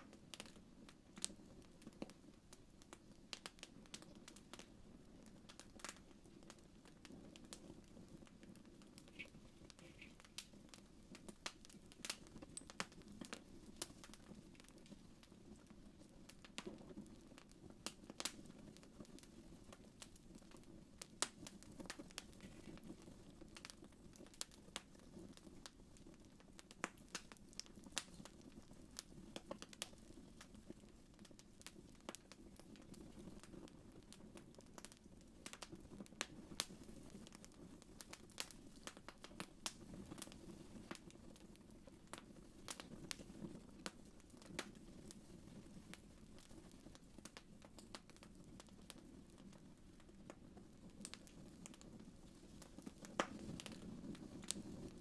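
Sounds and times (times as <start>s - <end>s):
wood fire popping and snapping: 0.0s - 55.0s
flames rumbling: 0.1s - 55.0s.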